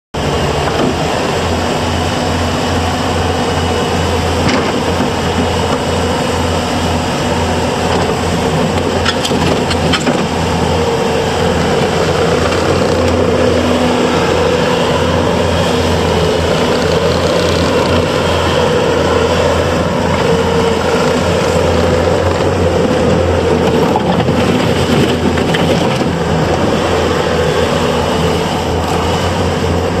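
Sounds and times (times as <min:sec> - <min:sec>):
loader diesel engine running: 0:00.2 - 0:30.0.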